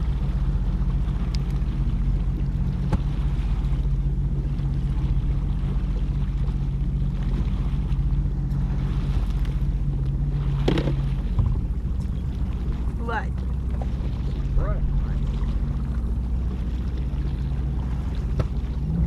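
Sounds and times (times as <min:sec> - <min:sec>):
jet ski engine idling: 0:00.0 - 0:19.0.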